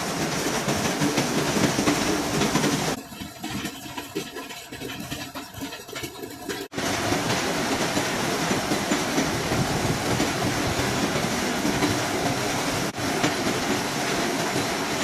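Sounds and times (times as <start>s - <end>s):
milling machine clatter: 0.0s - 15.0s.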